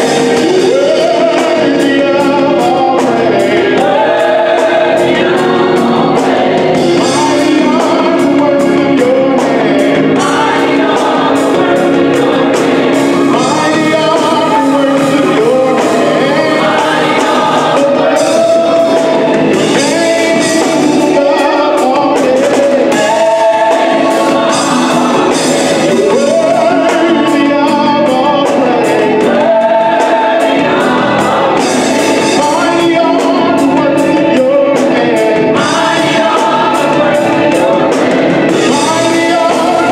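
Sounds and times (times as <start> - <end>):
drum kit: 0.0 - 39.9
electric bass: 0.0 - 39.9
gospel choir singing: 0.0 - 39.9
organ: 0.0 - 39.9.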